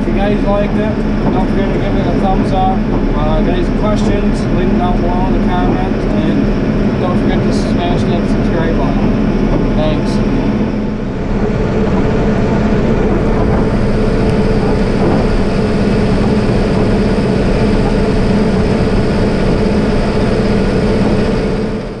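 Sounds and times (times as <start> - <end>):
tractor engine droning: 0.0 - 22.0.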